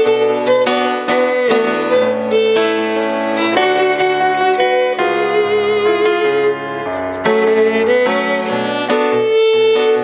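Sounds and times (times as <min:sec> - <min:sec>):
soft musical accompaniment: 0:00.0 - 0:10.0
violin playing held notes: 0:00.0 - 0:10.0.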